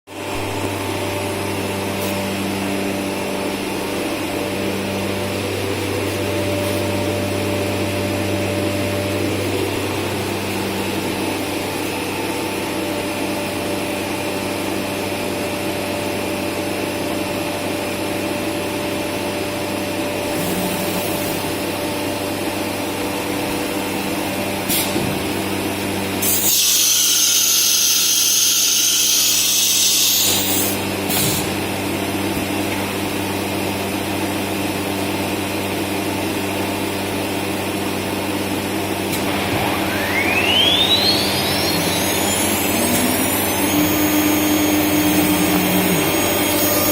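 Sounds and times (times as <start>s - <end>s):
cnc router humming: 0.1s - 46.9s
loud high-pitched machine noise: 0.1s - 46.9s.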